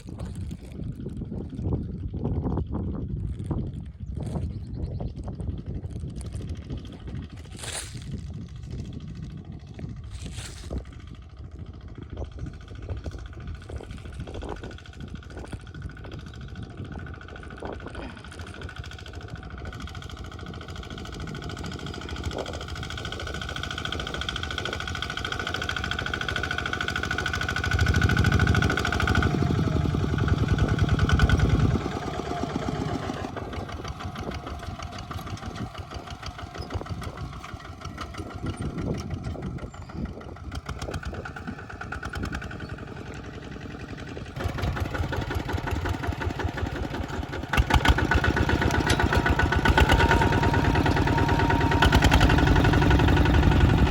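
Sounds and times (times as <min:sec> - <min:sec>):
tractor engine clattering: 0:05.3 - 0:53.9.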